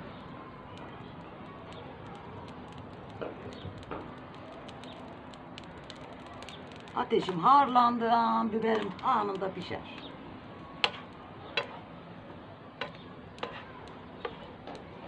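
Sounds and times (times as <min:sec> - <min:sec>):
fire hissing: 0:00.0 - 0:15.0
fire popping: 0:00.0 - 0:15.0
wood fire crackling: 0:00.0 - 0:15.0.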